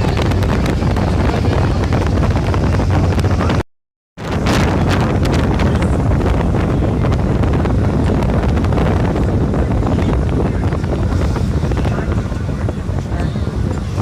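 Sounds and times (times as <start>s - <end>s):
wind rumbling on microphone: 0.0s - 3.6s, 4.2s - 14.0s.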